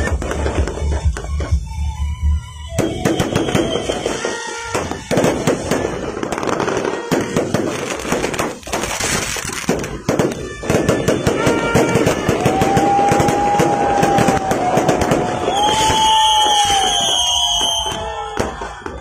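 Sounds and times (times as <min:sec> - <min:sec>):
firework whistle: 0:00.0 - 0:19.0
fireworks bangs and crackles: 0:00.0 - 0:19.0.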